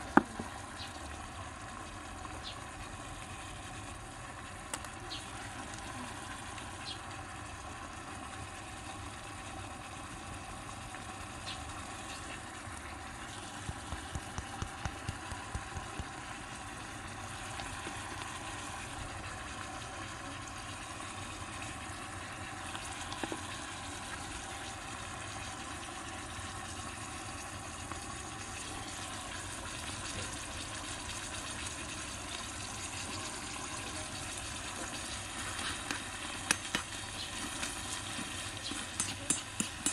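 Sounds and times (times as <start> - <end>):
sauce bubbling and sizzling: 0.0 - 39.9.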